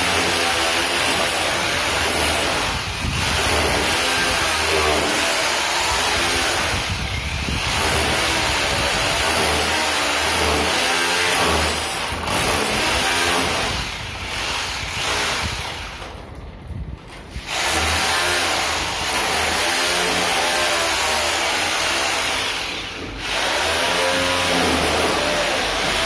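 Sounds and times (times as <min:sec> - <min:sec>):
hammer drill into brick wall: 0:00.0 - 0:16.4, 0:17.0 - 0:26.0.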